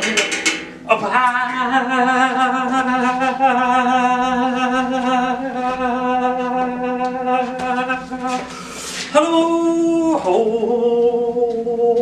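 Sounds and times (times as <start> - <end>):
man singing long held note: 0.9 - 12.0.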